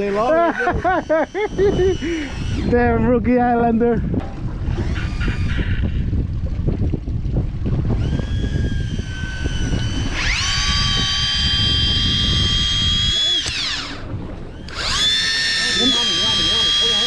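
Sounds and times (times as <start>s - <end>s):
fishing reel motor whine: 0.0s - 3.4s, 4.1s - 17.0s
wind rumble: 0.0s - 15.3s
boat noise: 0.0s - 17.0s.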